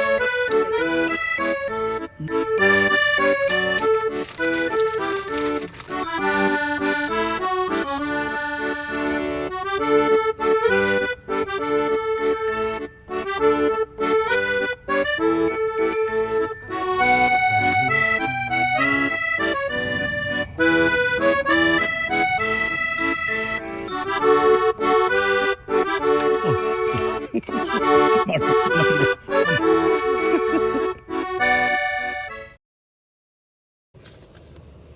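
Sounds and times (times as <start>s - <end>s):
accordion melody: 0.0s - 32.6s.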